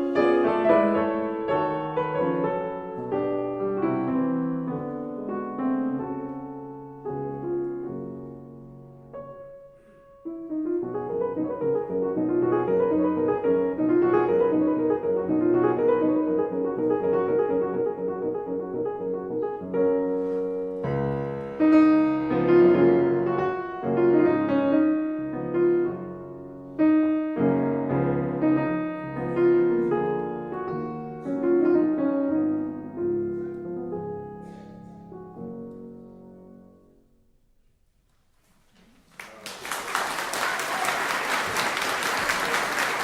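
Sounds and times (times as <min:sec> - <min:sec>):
slow solo piano piece: 0:00.0 - 0:37.3.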